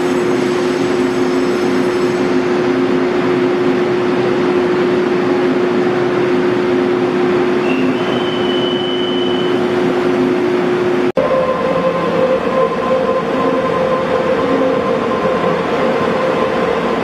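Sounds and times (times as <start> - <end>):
trains rumbling at station: 0.0 - 17.0.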